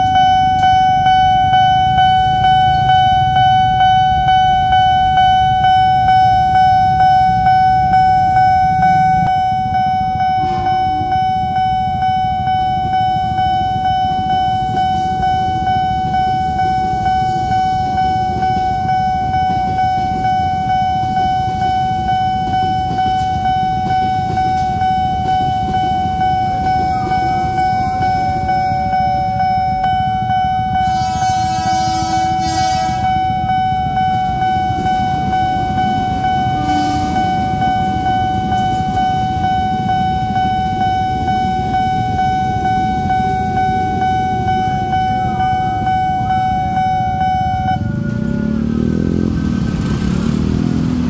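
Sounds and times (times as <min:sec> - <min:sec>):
level-crossing alarm ringing: 0:00.0 - 0:51.0
passing electric train rumble: 0:00.0 - 0:51.0.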